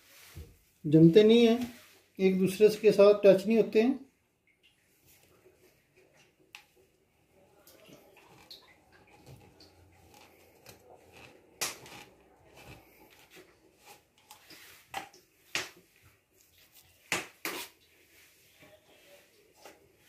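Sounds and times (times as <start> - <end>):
faint handling sounds: 0.0 - 3.0, 4.5 - 20.0.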